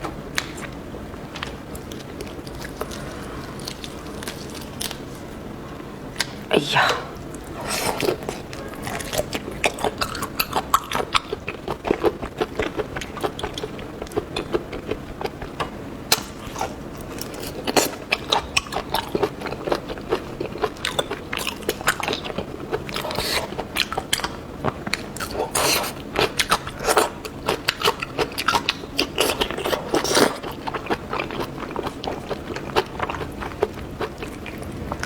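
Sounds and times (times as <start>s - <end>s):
person chewing and crunching food: 0.4s - 5.4s, 7.2s - 35.0s.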